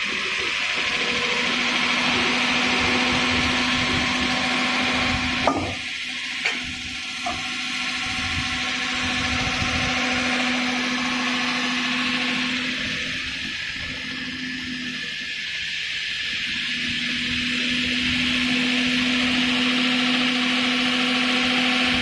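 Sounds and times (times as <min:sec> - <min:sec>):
lathe motor hum: 0:00.0 - 0:22.0.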